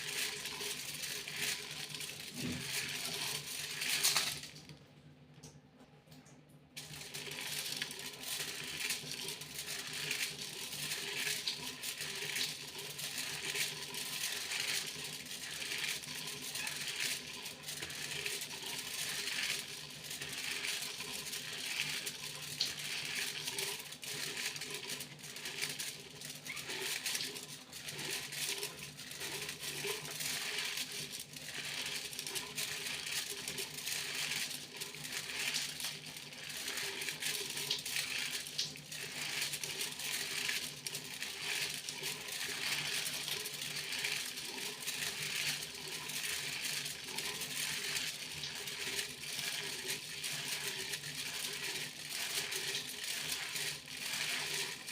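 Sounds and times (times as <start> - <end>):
aluminium foil crinkling: 0.0 - 4.7, 6.8 - 54.9.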